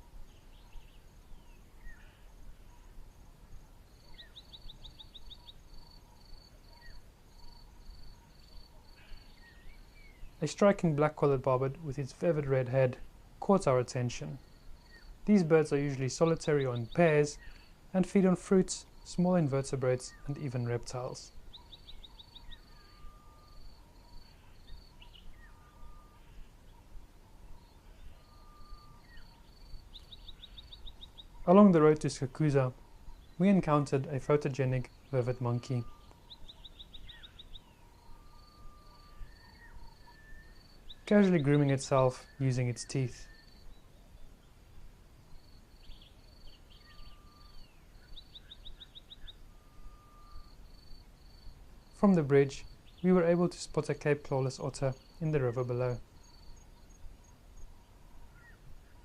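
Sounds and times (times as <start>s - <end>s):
faint birdsong: 0.0s - 59.0s.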